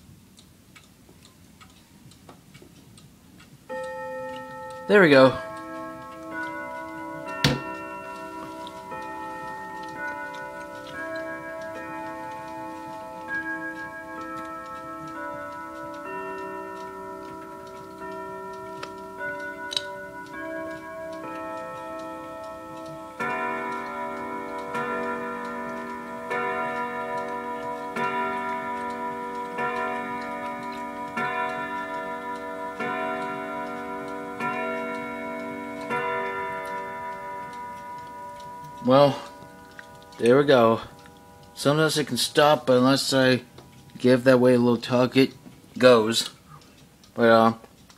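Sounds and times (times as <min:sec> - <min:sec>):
clock chiming melody: 0:03.6 - 0:47.5
clock striking the hour: 0:03.6 - 0:47.6.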